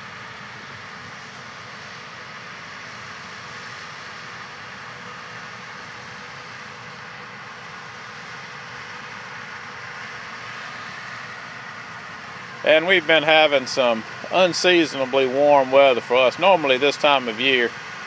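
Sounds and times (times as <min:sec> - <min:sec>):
distant tractors droning: 0:00.0 - 0:18.0.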